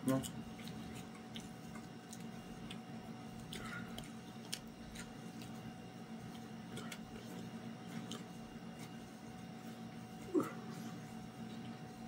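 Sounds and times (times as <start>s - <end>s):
chewing and mouth sounds: 0.0s - 12.0s
low room hum: 0.0s - 12.0s.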